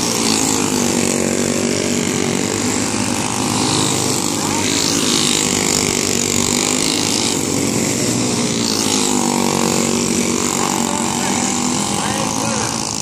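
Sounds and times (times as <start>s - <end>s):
go-kart engines racing: 0.0s - 13.0s.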